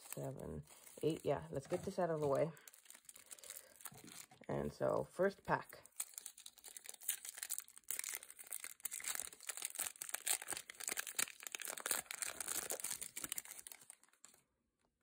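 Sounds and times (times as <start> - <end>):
foil wrapper torn and crinkled: 0.0 - 4.5, 5.8 - 14.4.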